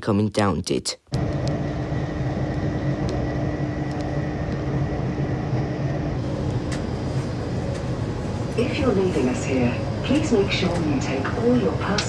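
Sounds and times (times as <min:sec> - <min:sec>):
low hum: 0:01.1 - 0:12.0
train rumbling on rails: 0:01.2 - 0:12.0.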